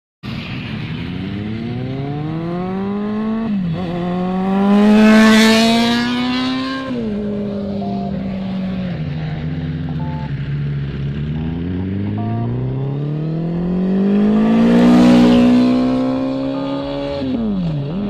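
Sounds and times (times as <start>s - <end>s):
motorcycle engine accelerating past: 0.8s - 18.0s.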